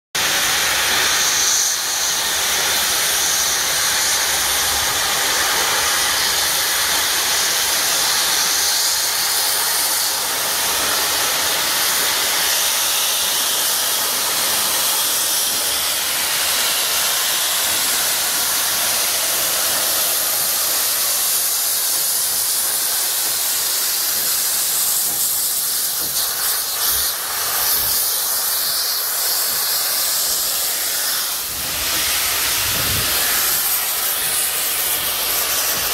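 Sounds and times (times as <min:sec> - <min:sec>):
steam hissing: 0:00.2 - 0:35.9.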